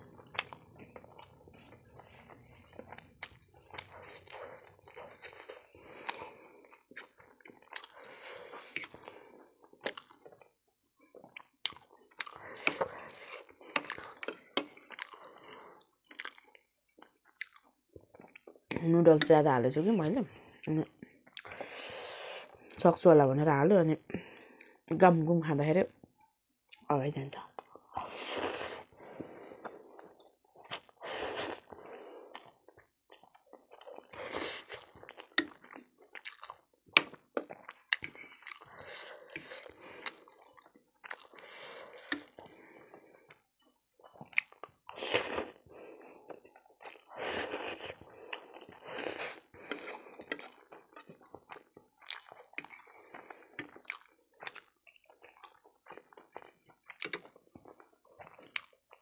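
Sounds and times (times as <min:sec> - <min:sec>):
wet chewing: 0:00.1 - 0:19.4, 0:28.6 - 0:59.0.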